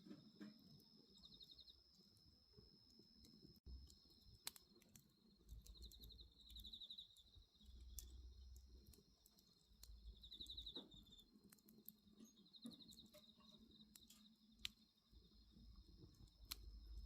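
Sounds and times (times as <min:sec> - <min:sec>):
night insects trilling: 0:00.0 - 0:17.0
wood fire crackling: 0:00.0 - 0:17.0.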